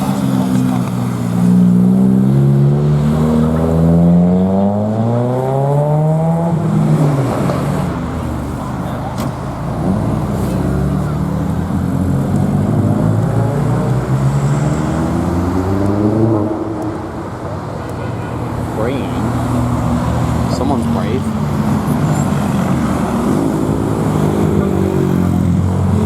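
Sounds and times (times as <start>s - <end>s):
vehicle engine accelerating: 0.0s - 17.0s, 19.2s - 26.0s
road noise: 0.0s - 26.0s.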